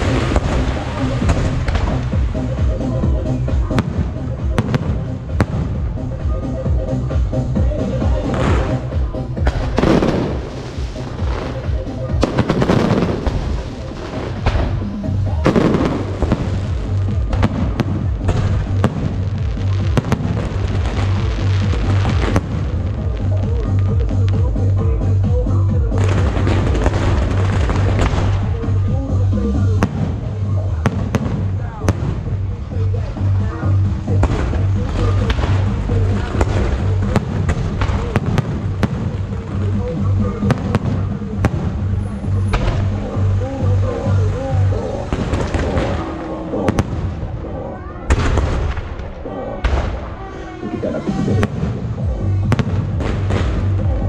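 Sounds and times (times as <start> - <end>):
music with low hum: 0.0 - 47.4, 50.7 - 54.0
fireworks bursting: 0.0 - 54.0.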